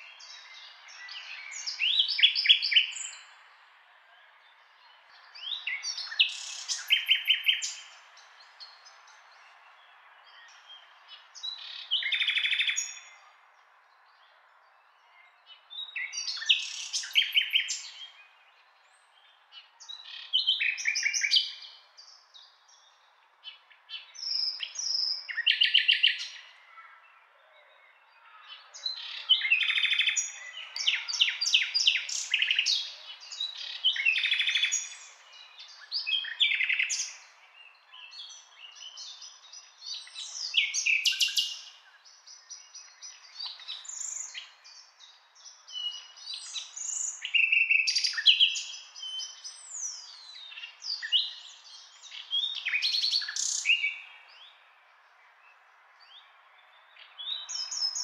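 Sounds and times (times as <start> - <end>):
nightingale singing: 0.0 - 3.4, 4.9 - 13.3, 15.1 - 26.5, 28.7 - 54.7, 56.0 - 58.0.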